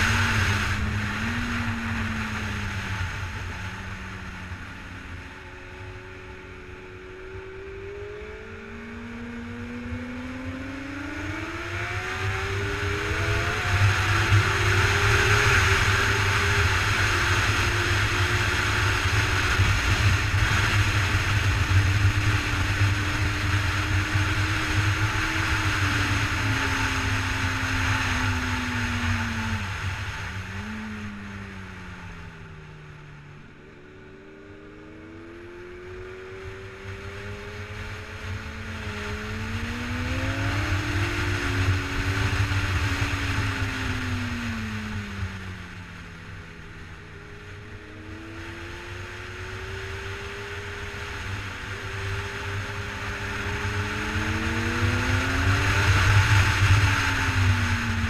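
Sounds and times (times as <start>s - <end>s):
wind rush on microphone: 0.0s - 6.2s, 9.7s - 32.4s, 35.8s - 46.7s, 47.5s - 58.0s
motorcycle engine revving: 0.0s - 58.0s.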